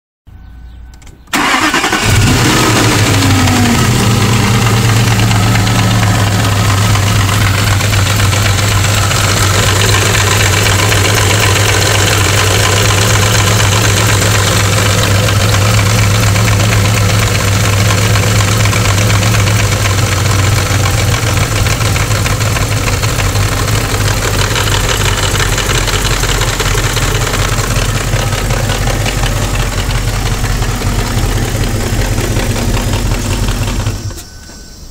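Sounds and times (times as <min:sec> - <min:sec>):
car engine idling: 0:01.2 - 0:34.9.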